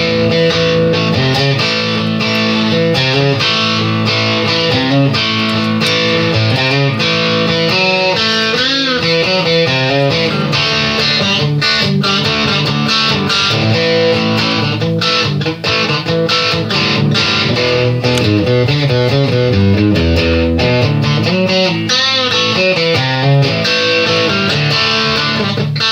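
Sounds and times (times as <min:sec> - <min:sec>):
instrumental guitar music: 0:00.0 - 0:25.9.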